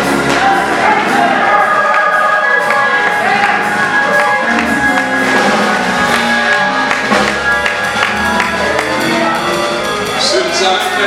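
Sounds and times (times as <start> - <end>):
gospel choir singing: 0.0 - 11.0
instrumental accompaniment: 0.0 - 11.0.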